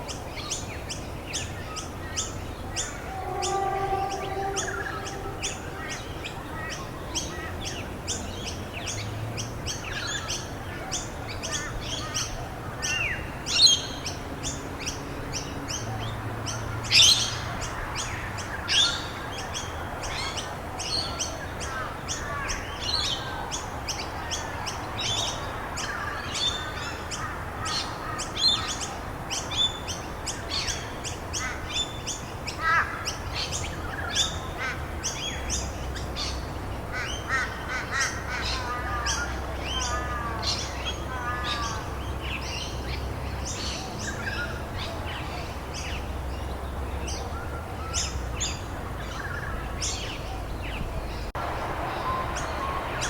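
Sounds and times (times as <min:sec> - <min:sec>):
loud sweeping bird calls: 0:00.0 - 0:09.1, 0:11.5 - 0:53.0
songbirds chirping: 0:00.0 - 0:53.0.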